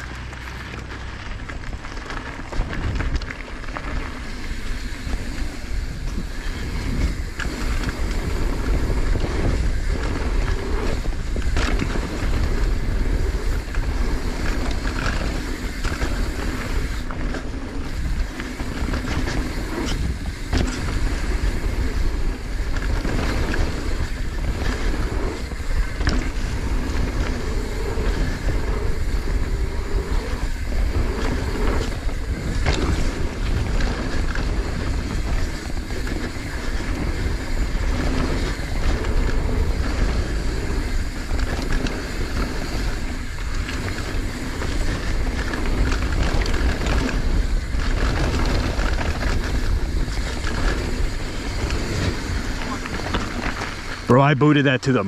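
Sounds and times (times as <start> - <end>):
bike rattling over bumps: 0.0 - 54.2
wind buffeting microphone: 0.0 - 54.2
tyres on dirt: 0.0 - 55.0.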